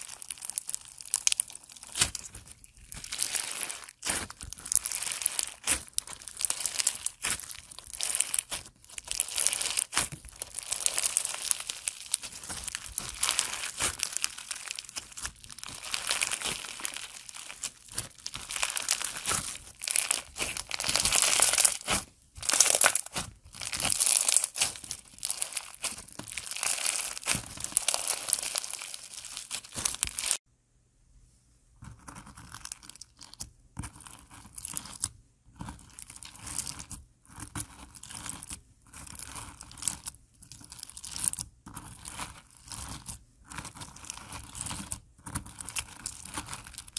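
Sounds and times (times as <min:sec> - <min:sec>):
foam bead slime crackling: 0:00.0 - 0:30.4, 0:31.9 - 0:46.9.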